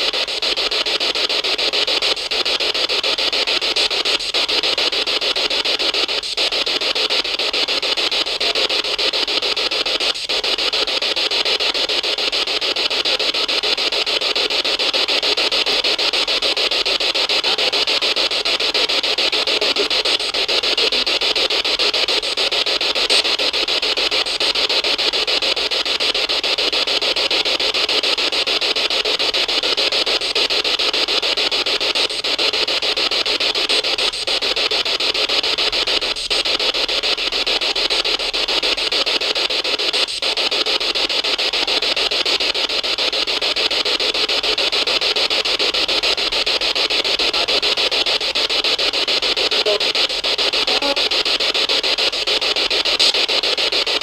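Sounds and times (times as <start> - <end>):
steady static hiss: 0.0 - 54.0.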